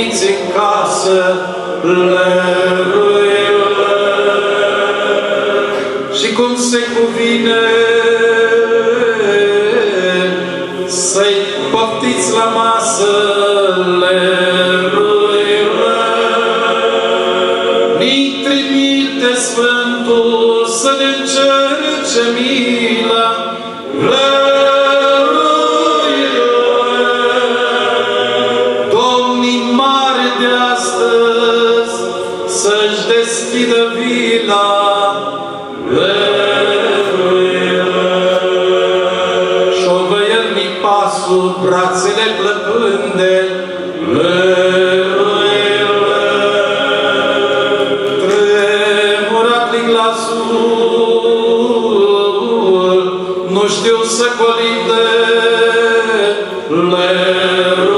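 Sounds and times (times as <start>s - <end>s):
male choir singing a cappella: 0.0s - 57.9s.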